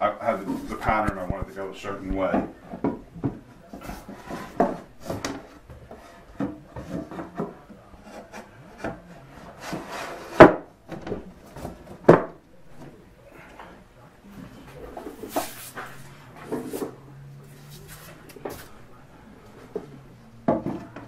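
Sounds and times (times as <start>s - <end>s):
wood rubbing and scraping: 0.2s - 13.8s, 14.4s - 21.0s.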